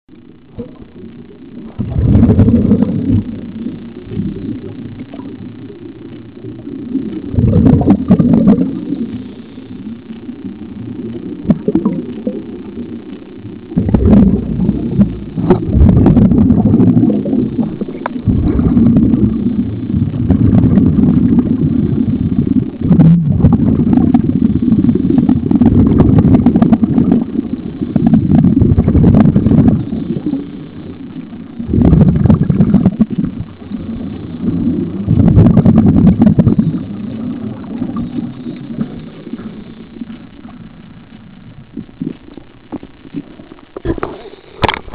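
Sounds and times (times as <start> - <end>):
underwater regulator exhaust bubbles: 0.4 - 44.9.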